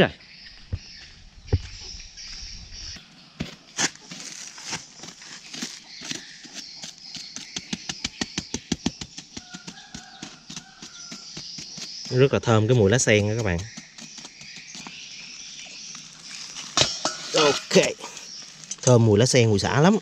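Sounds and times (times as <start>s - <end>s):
insects chirring: 0.0s - 20.0s
dry crackling and clicking: 3.4s - 20.0s.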